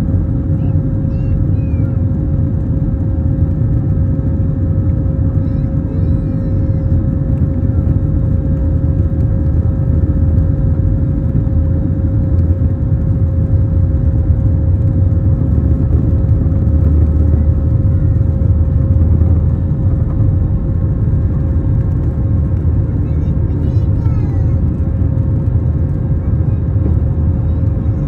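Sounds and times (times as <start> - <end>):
constant hum tone: 0.0 - 28.0
jet engine rumble in cabin: 0.0 - 28.0.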